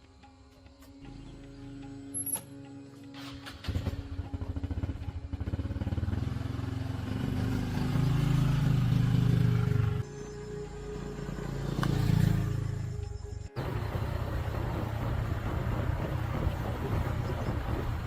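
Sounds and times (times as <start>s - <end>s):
diesel engine starting and running: 3.1s - 18.0s.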